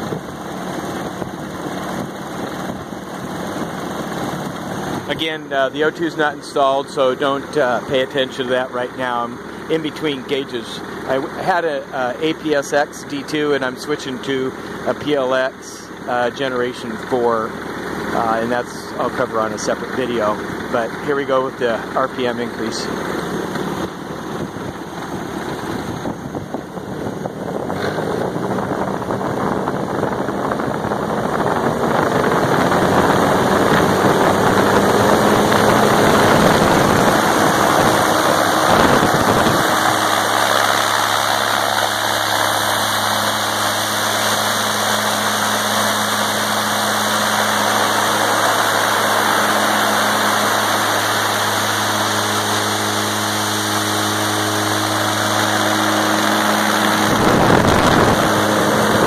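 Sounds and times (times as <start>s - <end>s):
engine turning a propeller: 0.0s - 59.0s.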